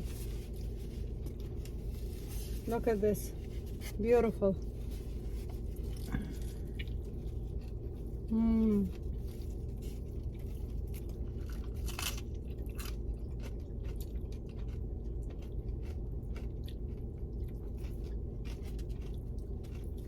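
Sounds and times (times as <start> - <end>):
chewing and crunching food: 0.0 - 20.0
steady low hum: 0.0 - 20.0.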